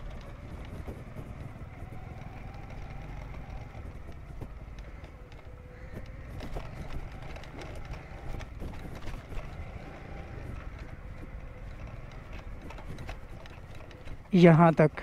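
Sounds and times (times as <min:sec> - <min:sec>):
distant engine hum: 0:00.0 - 0:15.0.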